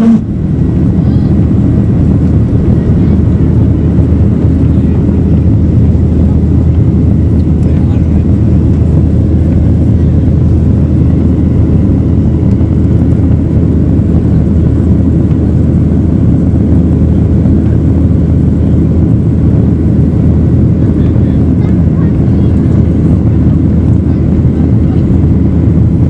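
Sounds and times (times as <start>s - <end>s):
jet engine cabin rumble: 0.0s - 26.0s.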